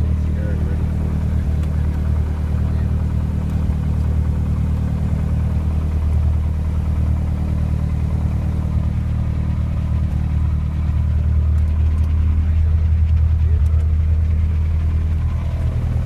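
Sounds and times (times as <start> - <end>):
propeller airplane engine drone: 0.0 - 16.0.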